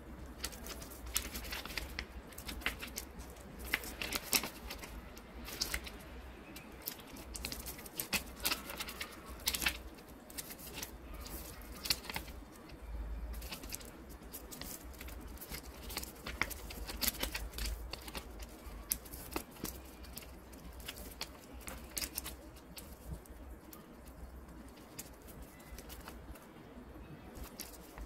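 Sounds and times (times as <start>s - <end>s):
paper rustling and crinkling: 0.0s - 28.0s.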